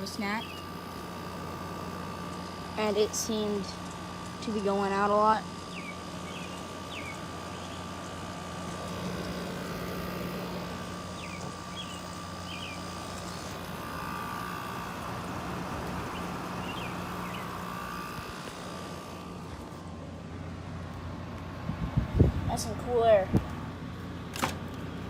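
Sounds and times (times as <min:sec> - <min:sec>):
air conditioner hum: 0:00.0 - 0:25.0
fan rushing: 0:00.0 - 0:25.0
fan whine: 0:00.0 - 0:25.0.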